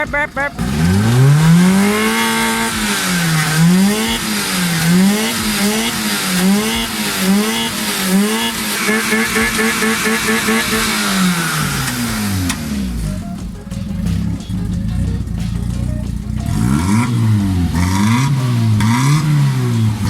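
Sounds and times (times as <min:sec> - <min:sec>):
rotary engine revving: 0:00.0 - 0:20.0.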